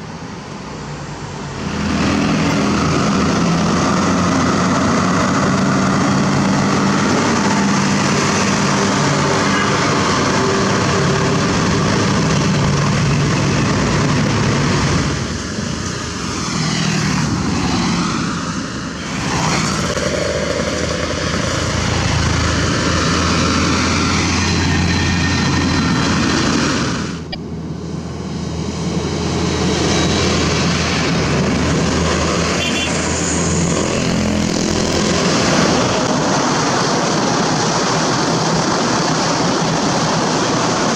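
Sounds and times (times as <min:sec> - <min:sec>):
diesel trucks driving past: 0:00.0 - 0:40.9.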